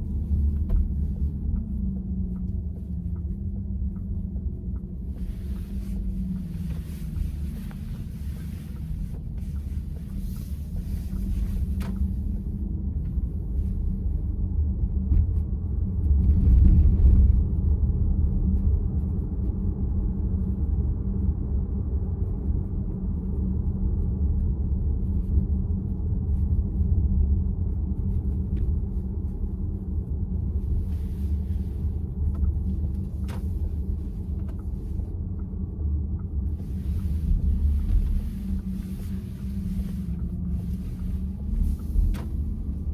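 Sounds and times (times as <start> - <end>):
road and tyre rumble in car: 0.0 - 42.9.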